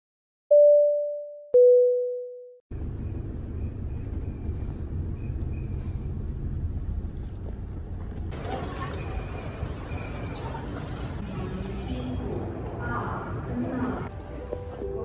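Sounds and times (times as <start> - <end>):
moving vehicle rumble: 2.7 - 15.0.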